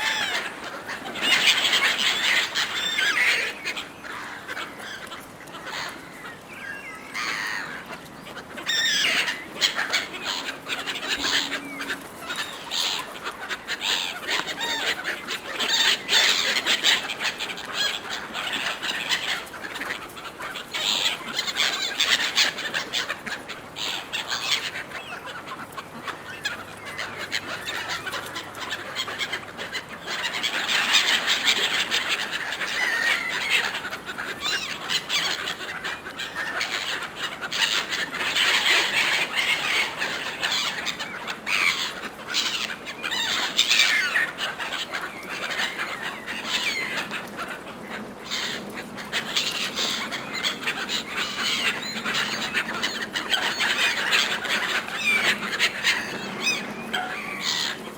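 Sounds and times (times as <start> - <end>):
gulls squabbling: 0.0 - 57.9.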